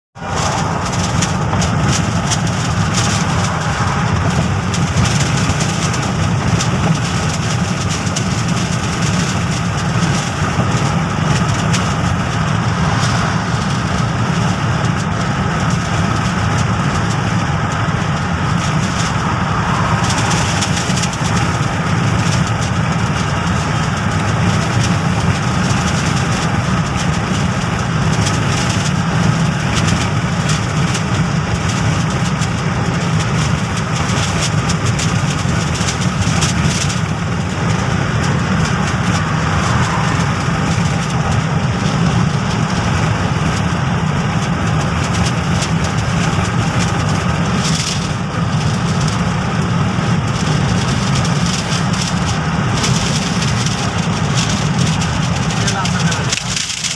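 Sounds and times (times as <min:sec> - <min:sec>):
car engine rumble: 0:00.1 - 0:56.9.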